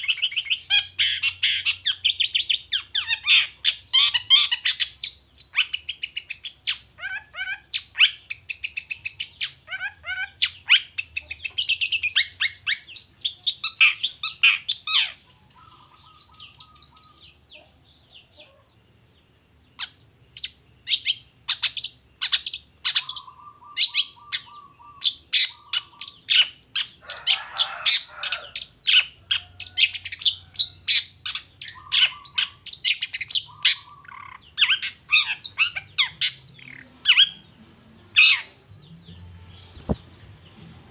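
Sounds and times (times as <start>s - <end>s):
bird chattering song: 0.0s - 40.6s.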